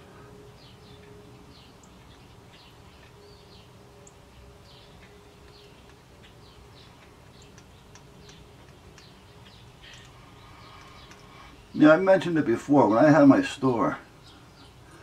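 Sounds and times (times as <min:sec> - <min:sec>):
birds chirping: 0:00.0 - 0:15.0
faint steady hum: 0:00.0 - 0:15.0.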